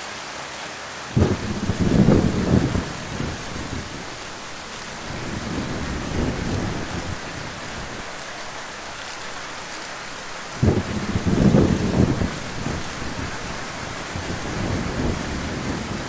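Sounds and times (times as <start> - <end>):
heavy rain falling: 0.0 - 16.0
thunder rumbling: 1.2 - 16.0.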